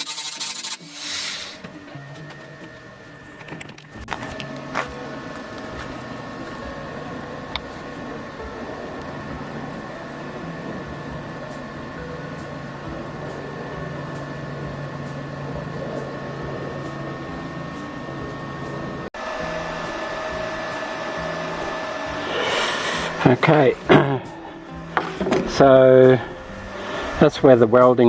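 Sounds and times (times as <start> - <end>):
steady machine drone: 0.0 - 28.0.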